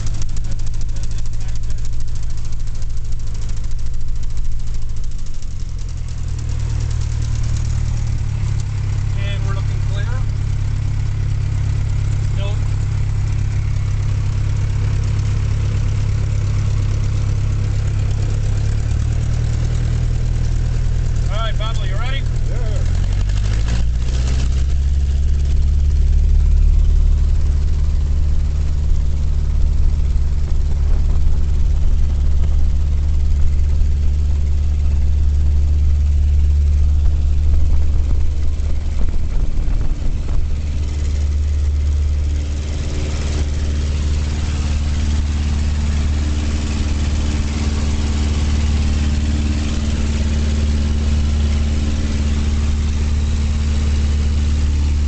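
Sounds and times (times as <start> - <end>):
light aircraft engine and propeller: 0.0 - 55.0.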